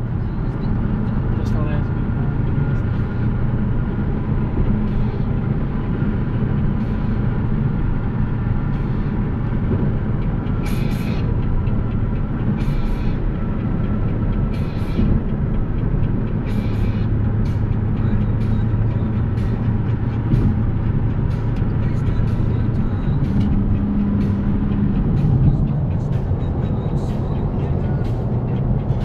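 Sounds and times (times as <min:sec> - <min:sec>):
car engine drone in cabin: 0:00.0 - 0:29.0
road noise: 0:00.0 - 0:29.0.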